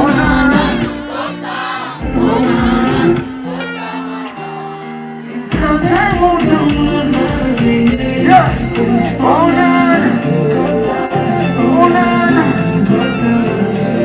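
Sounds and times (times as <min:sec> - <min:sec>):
live band playing: 0:00.0 - 0:14.0
people singing: 0:00.0 - 0:14.0.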